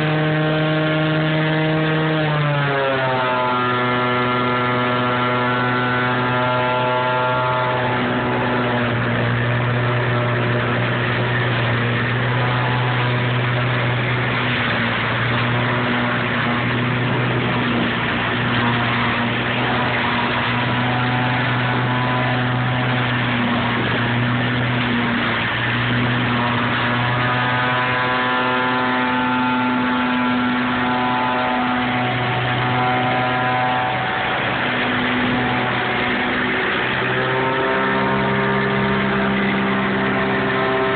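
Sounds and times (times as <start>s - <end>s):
fan whine: 0.0s - 40.9s
leaf vacuum engine hum: 0.0s - 40.9s
leaves rushing through hose: 1.9s - 40.9s.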